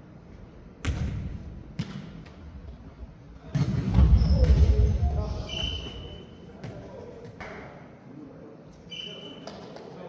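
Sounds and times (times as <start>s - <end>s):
rumble of play on court: 0.0s - 10.0s.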